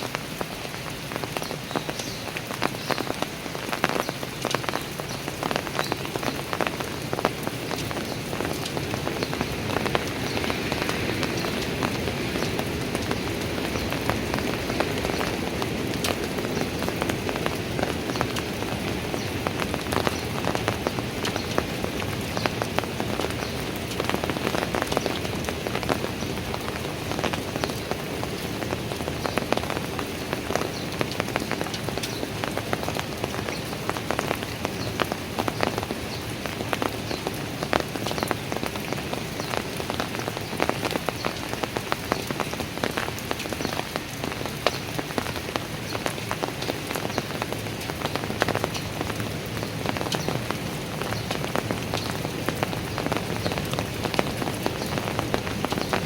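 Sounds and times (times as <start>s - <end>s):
rain on hard surfaces: 0.0s - 56.0s.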